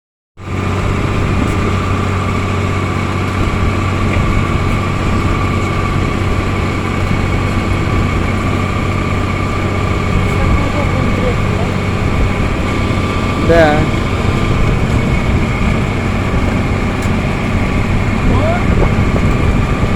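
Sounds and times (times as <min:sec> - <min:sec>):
diesel machinery engine drone: 0:00.4 - 0:19.9
high whine: 0:00.4 - 0:19.9.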